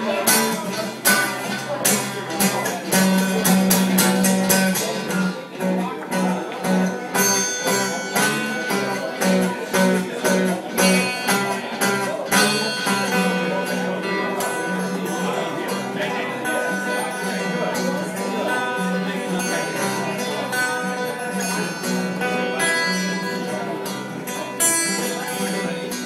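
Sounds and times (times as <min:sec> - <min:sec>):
fingerpicked blues guitar: 0:00.0 - 0:26.0.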